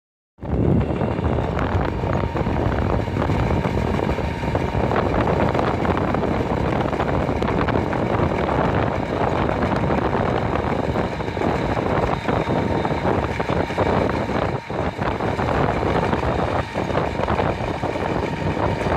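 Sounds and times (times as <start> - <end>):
faint constant whine: 0.4 - 18.9
garbage truck engine running: 0.4 - 18.9.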